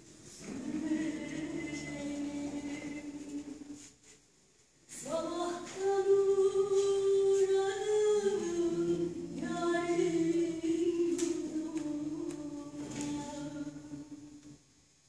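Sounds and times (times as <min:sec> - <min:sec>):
woman singing unaccompanied: 0:00.4 - 0:03.9, 0:04.9 - 0:14.6.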